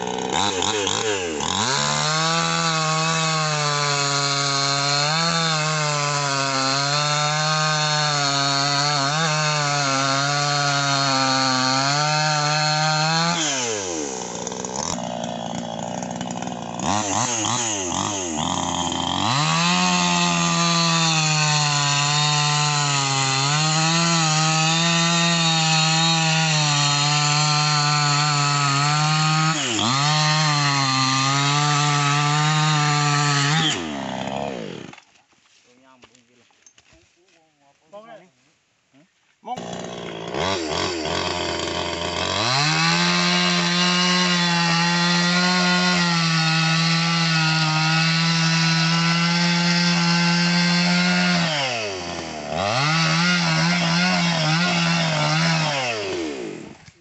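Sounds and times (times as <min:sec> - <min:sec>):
chainsaw cutting logs: 0:00.0 - 0:38.0, 0:39.4 - 0:57.0.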